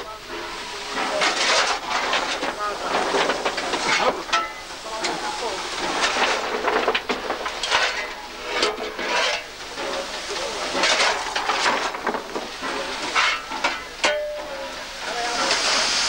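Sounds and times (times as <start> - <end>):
shovel scraping coal: 0.3 - 16.0.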